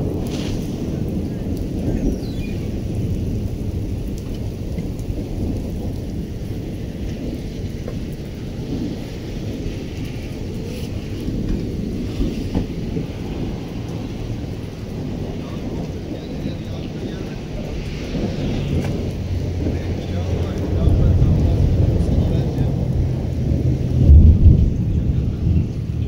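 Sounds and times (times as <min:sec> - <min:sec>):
continuous low rumble: 0:00.0 - 0:26.0
rain on wet pavement: 0:00.0 - 0:26.0.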